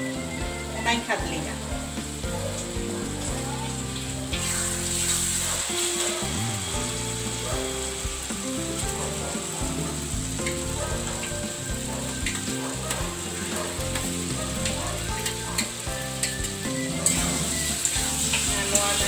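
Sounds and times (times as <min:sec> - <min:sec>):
background music: 0:00.0 - 0:19.0
spices sizzling in oil: 0:00.0 - 0:19.0.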